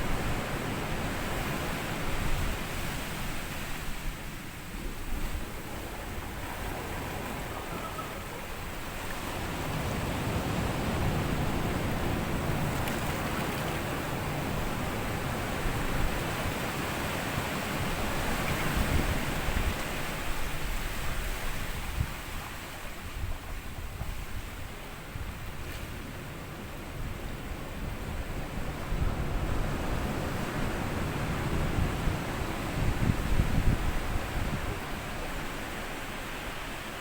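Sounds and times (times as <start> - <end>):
waves breaking on sandy beach: 0.0 - 37.0.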